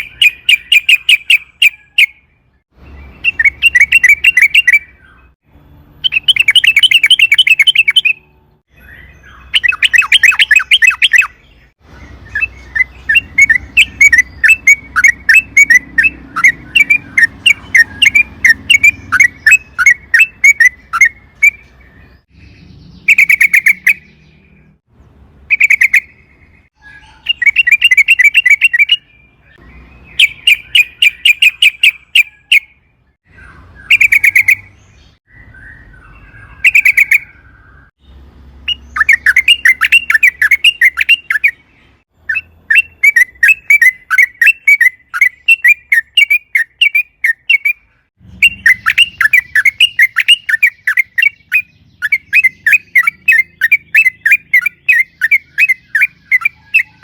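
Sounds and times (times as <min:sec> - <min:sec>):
bulbul singing: 0:00.0 - 0:57.0.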